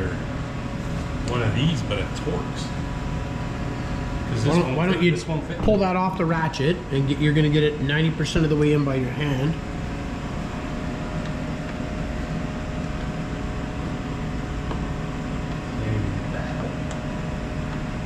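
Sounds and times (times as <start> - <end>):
fan humming: 0.0 - 18.0.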